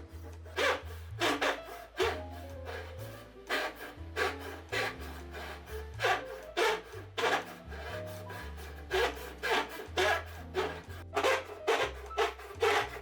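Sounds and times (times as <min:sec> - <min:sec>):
background music with bass line: 0:00.0 - 0:13.0
hand tool scraping wood: 0:00.0 - 0:13.0.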